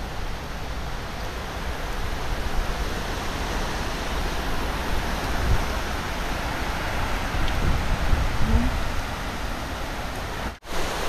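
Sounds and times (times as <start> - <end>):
wind and rain rushing: 0.0 - 11.0
wind buffeting microphone: 0.6 - 9.5.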